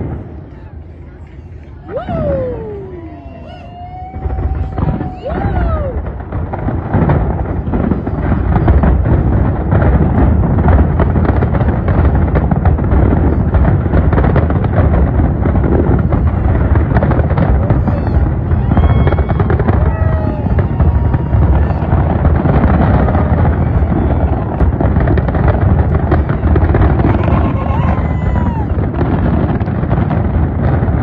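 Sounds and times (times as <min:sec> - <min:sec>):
fireworks booming and crackling: 0:00.0 - 0:31.0
heavy rumble: 0:00.0 - 0:31.0
fireworks whistles: 0:01.8 - 0:31.0.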